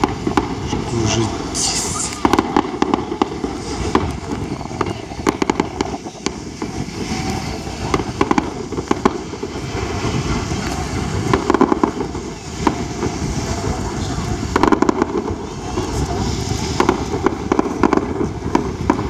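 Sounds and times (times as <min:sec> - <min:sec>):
fireworks bangs and pops: 0:00.0 - 0:19.0.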